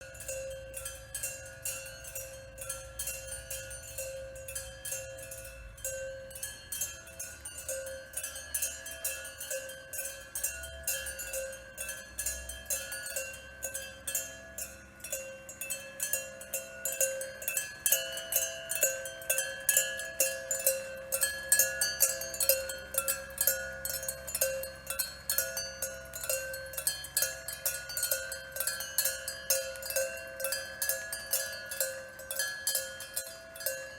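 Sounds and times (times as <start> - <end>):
bell-like tones music: 0.0 - 33.9.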